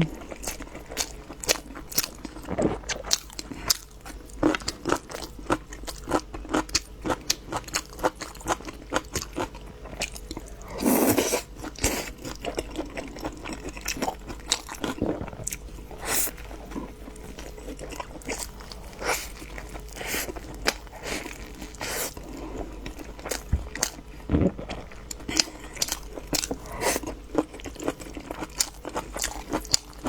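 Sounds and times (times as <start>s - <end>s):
person chewing with crunches: 0.0s - 30.0s.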